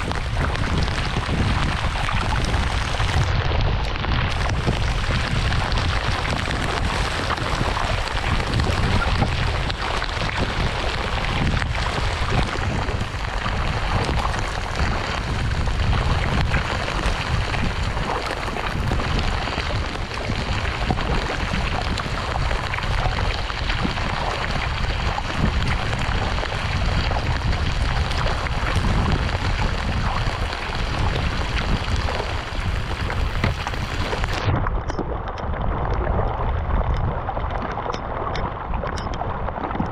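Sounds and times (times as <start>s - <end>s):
rain falling on water: 0.0s - 34.5s
wind rumble on microphone: 0.0s - 39.9s.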